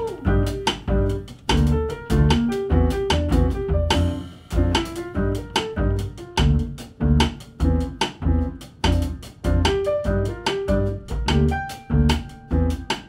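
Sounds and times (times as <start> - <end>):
double bass rhythmic notes: 0.0 - 13.0
jazz piano trio playing: 0.0 - 13.0.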